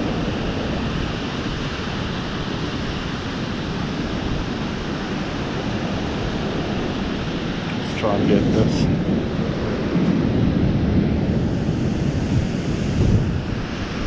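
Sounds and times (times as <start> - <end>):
beach surf rushing: 0.0 - 14.0
wind on microphone: 0.0 - 14.0.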